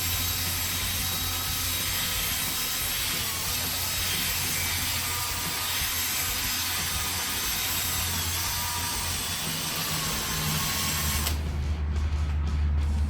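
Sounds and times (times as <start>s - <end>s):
electric drill motor whine: 0.0s - 11.4s.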